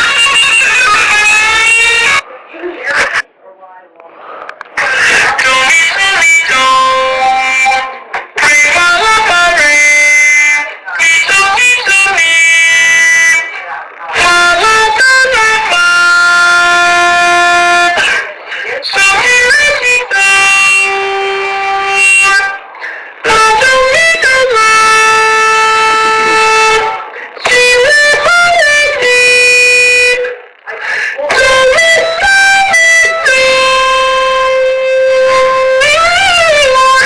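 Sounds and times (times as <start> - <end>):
buzzy tone playing a tune: 0.0 - 3.2, 4.8 - 37.0.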